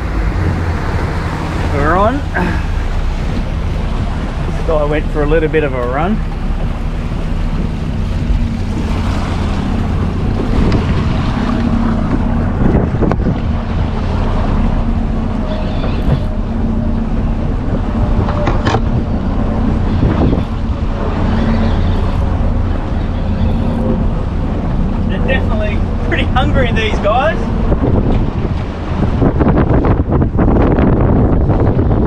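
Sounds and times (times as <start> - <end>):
boat motor humming: 0.0 - 32.0
wind buffeting microphone: 0.0 - 32.0.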